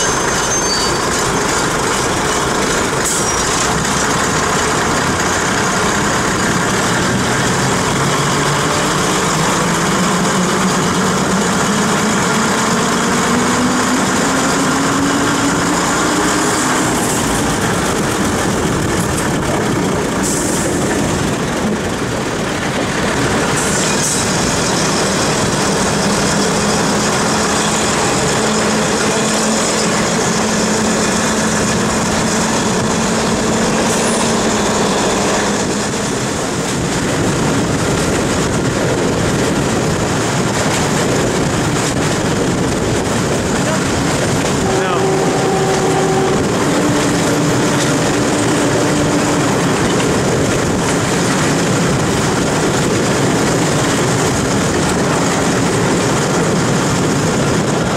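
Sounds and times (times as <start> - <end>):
train diesel engine: 0.0 - 57.9
train rolling noise: 0.0 - 57.9
wind noise: 0.0 - 57.9.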